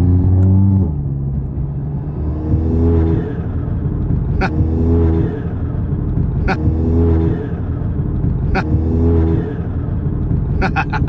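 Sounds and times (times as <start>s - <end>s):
turbo car engine accelerating: 0.0s - 11.0s.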